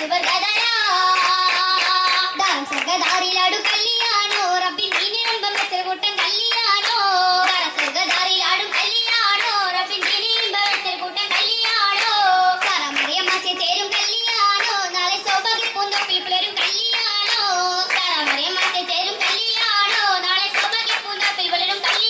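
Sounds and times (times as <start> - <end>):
girls singing in chorus: 0.0 - 22.0
hands clapping in rhythm: 0.0 - 22.0.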